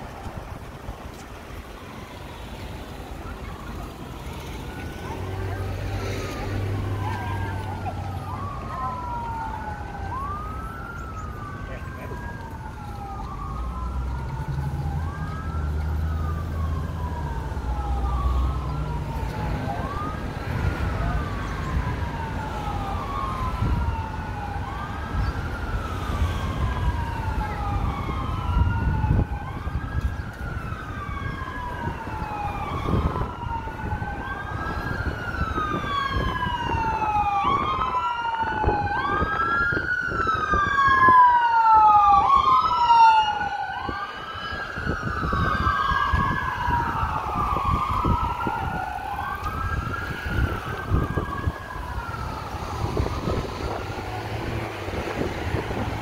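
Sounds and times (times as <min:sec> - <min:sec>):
second siren: 0:00.3 - 0:56.0
siren wailing: 0:00.3 - 0:56.0.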